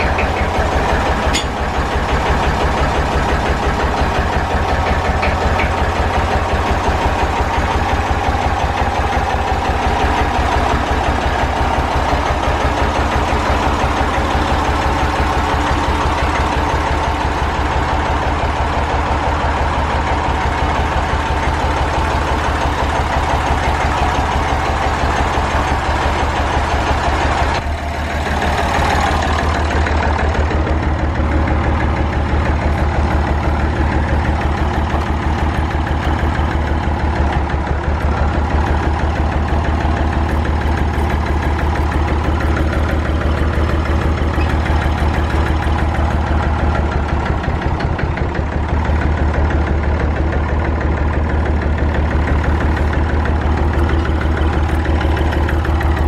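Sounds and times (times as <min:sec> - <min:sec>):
diesel engine running roughly: 0:00.0 - 0:56.0.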